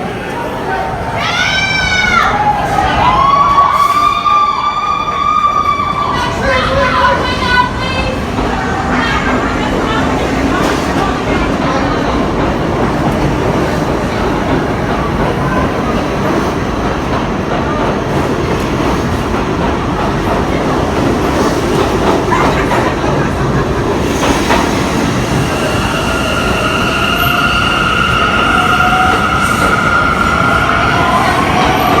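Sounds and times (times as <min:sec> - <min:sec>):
subway train rumbling and rattling: 0:00.0 - 0:32.0.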